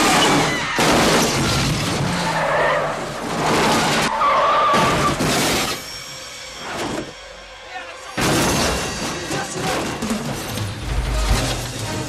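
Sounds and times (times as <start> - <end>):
car crashing: 0.0 - 7.2, 8.1 - 12.0
metal scraping along road: 0.0 - 12.0.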